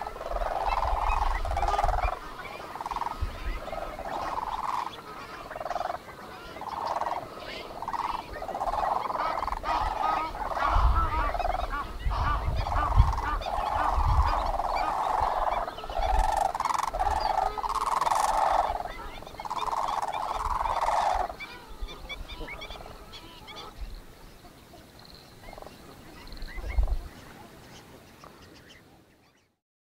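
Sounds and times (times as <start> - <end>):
waterbirds calling: 0.0 - 29.6.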